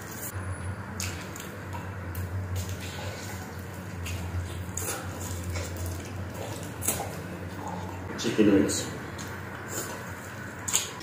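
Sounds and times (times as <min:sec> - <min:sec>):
wet chewing and lip-smacking: 0:00.9 - 0:08.2, 0:09.1 - 0:11.0.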